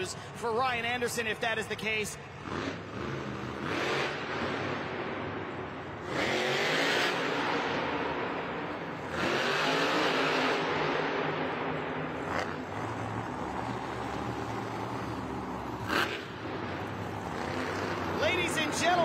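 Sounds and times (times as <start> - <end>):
truck engine revving: 2.3 - 19.0.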